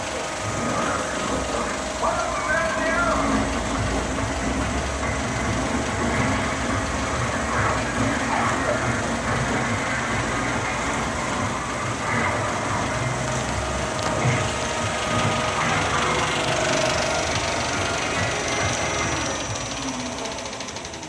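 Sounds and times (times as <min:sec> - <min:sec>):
film projector running: 0:00.0 - 0:21.0.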